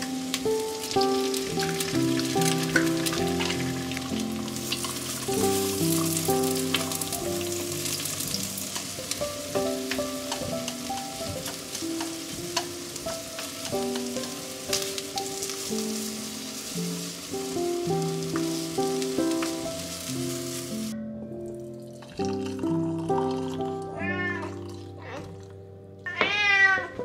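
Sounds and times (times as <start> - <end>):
food sizzling and popping: 0.0 - 27.0
soft melodic background music: 0.0 - 27.0.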